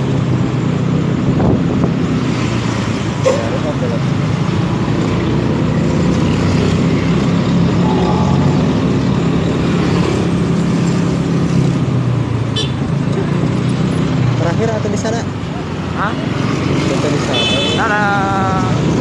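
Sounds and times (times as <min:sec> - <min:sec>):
road noise: 0:00.0 - 0:19.0
traffic engines droning: 0:00.0 - 0:19.0.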